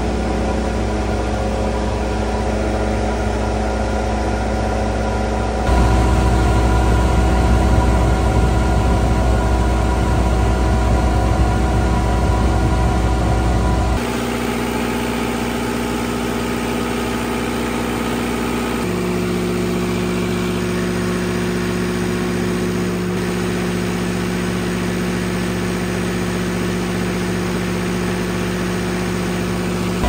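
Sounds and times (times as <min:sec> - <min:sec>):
generator engine droning: 0:00.0 - 0:30.0.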